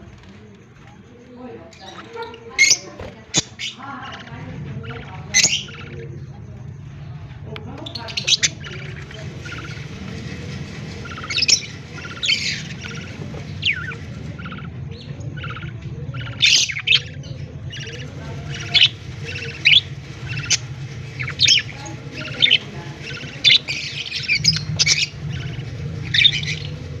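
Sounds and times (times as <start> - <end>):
steady low hum: 0.0 - 27.0
budgerigars chirping and squawking: 1.7 - 6.3, 7.6 - 27.0.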